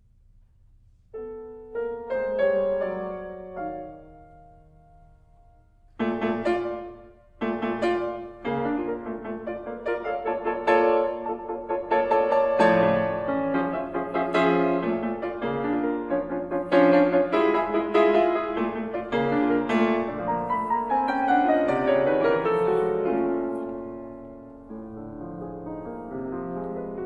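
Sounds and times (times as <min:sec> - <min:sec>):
solo grand piano: 0:00.0 - 0:27.0.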